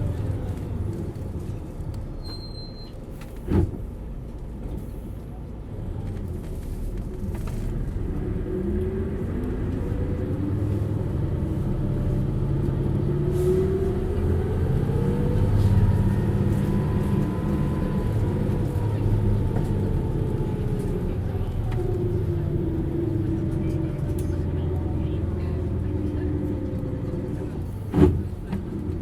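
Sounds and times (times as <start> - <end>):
diesel bus engine accelerating: 0.0 - 29.0.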